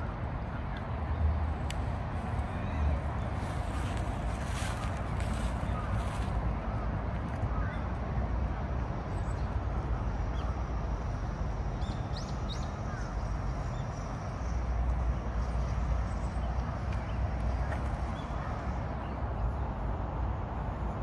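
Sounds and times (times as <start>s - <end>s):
outdoor background rumble: 0.0s - 21.0s.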